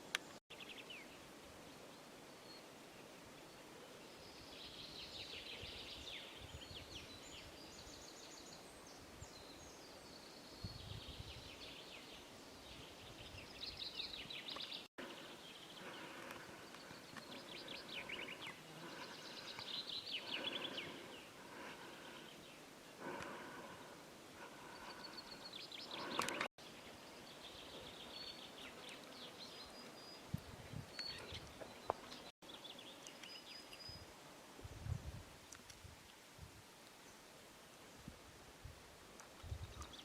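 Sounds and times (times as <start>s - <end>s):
faint steady hiss: 0.0s - 40.0s
songbirds chirping trills: 0.1s - 34.2s.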